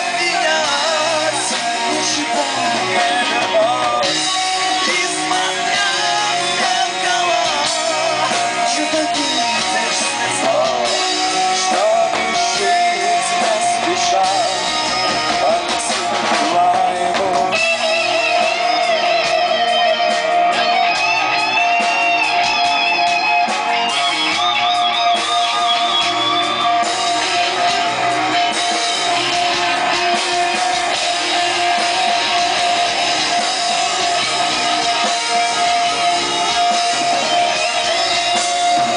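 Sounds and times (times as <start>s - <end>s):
guitar rock music: 0.0s - 38.9s.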